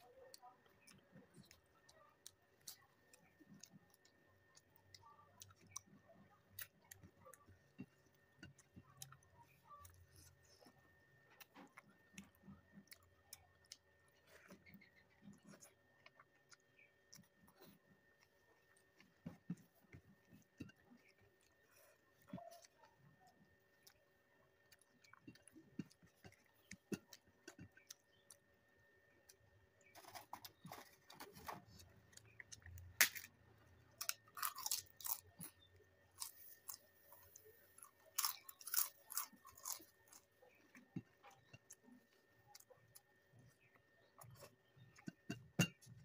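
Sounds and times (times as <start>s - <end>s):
person chewing: 0.0s - 28.5s, 29.2s - 46.0s
crunching of crisp food: 0.0s - 46.0s.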